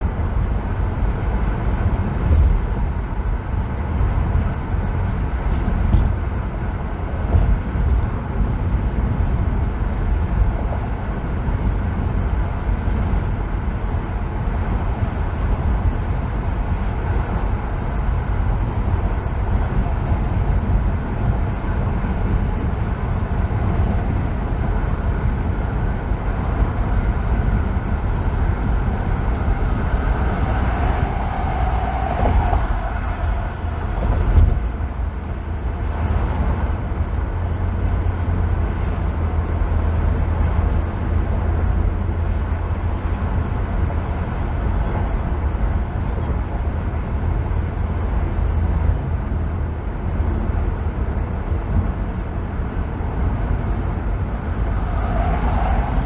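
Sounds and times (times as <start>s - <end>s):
car driving on freeway: 0.0s - 56.0s.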